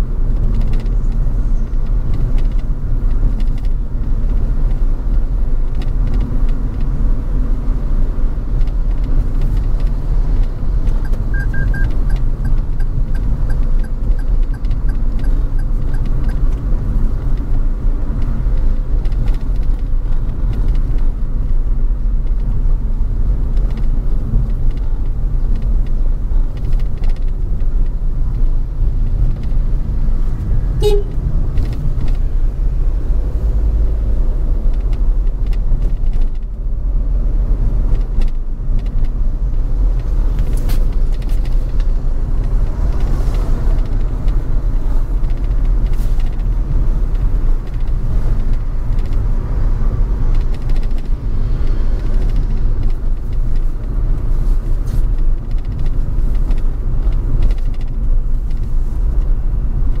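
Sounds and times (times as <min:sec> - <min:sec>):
car road noise rumble: 0:00.0 - 1:00.0.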